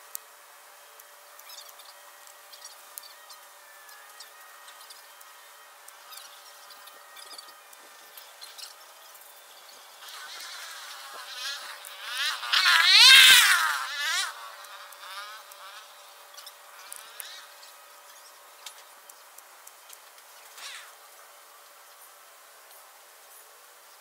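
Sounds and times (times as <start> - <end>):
flying insect buzzing: 1.0 - 21.2.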